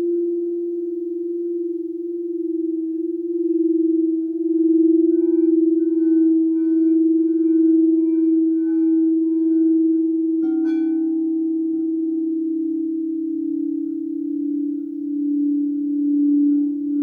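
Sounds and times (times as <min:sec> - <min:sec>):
singing bowl ringing: 0:00.0 - 0:17.0.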